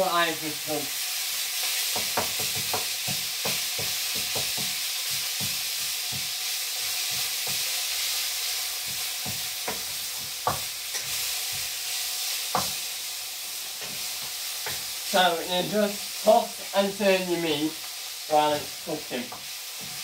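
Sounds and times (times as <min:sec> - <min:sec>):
meat sizzling in frying pan: 0:00.0 - 0:20.0.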